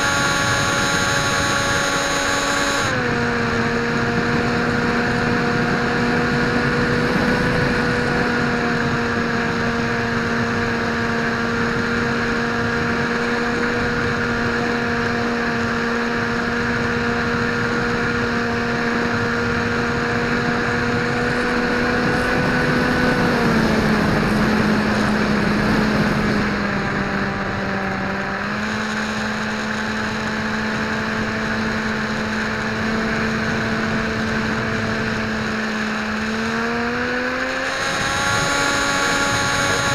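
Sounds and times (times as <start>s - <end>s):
model plane motor whine: 0.0s - 39.9s
wind rush: 0.0s - 39.9s.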